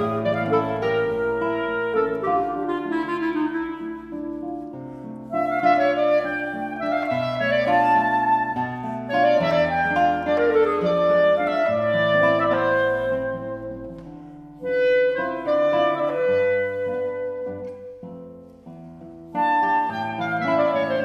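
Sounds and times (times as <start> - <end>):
clarinet melody: 0.0 - 21.0
plucked classical guitar: 0.0 - 21.0.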